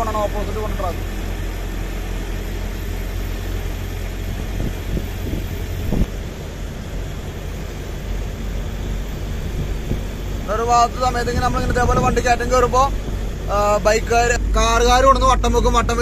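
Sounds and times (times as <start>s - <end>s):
diesel truck engine: 0.0s - 16.0s
road and wind noise: 0.0s - 16.0s.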